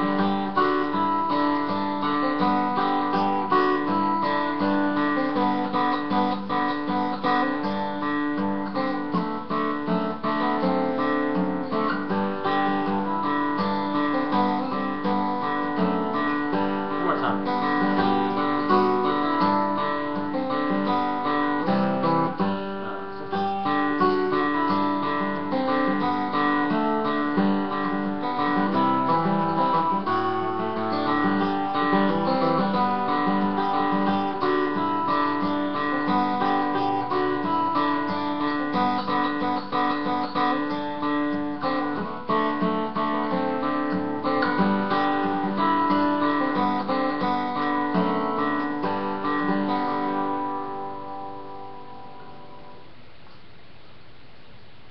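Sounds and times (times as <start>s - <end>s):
fingerpicked acoustic guitar: 0.0s - 54.9s.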